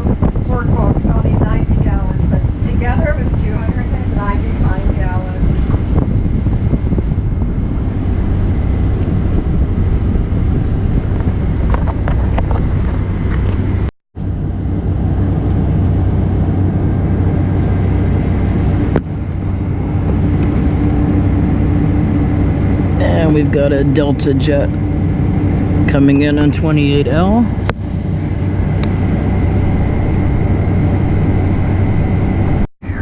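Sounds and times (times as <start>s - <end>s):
airplane cabin drone: 0.0s - 33.0s
faint high whines: 0.0s - 33.0s.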